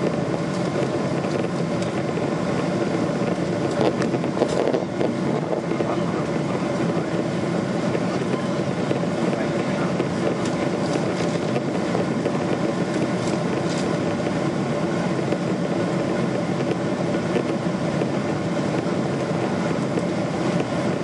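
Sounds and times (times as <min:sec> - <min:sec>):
airplane cabin engine rushing: 0:00.0 - 0:21.0.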